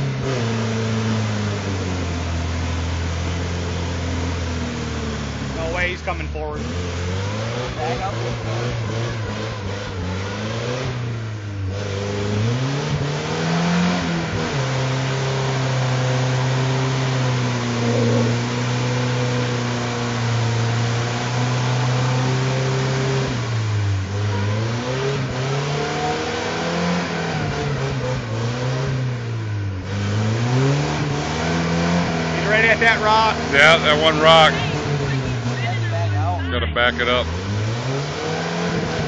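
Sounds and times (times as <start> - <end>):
car engine revving: 0.0 - 39.0
tires spinning in mud: 0.0 - 39.0.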